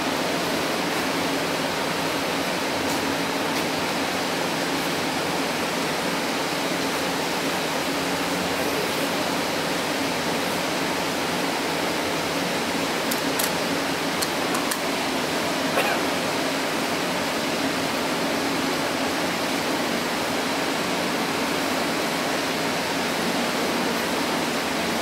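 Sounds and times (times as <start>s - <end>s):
locomotive ventilation blowers: 0.0s - 25.0s.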